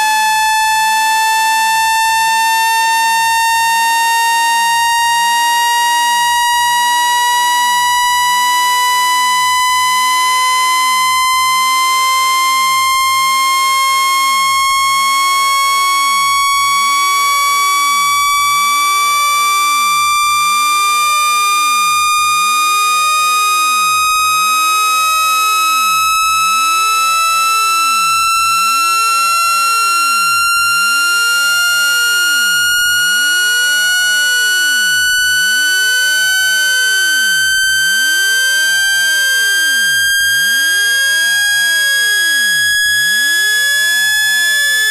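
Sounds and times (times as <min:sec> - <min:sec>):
buzzy rising tone from phone speaker: 0:00.0 - 0:44.9.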